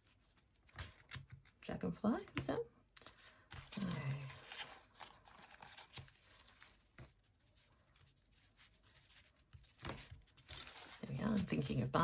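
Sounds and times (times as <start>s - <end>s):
paper rustling: 0.0s - 1.6s, 3.0s - 12.0s.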